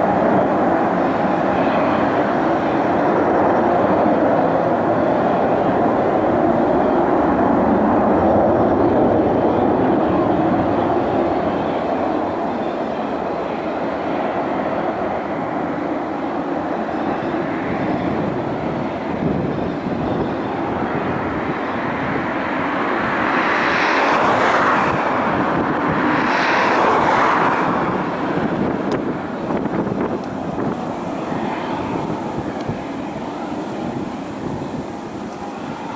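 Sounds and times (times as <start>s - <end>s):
jet engine roar: 0.0s - 35.9s.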